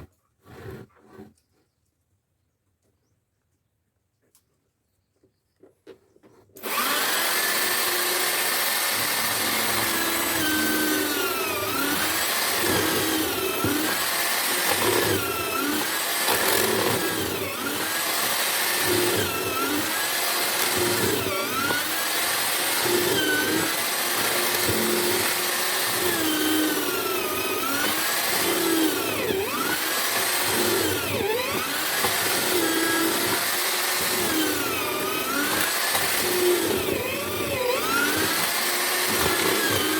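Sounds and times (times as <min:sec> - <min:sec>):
drill motor cutting wood: 0:06.6 - 0:39.9.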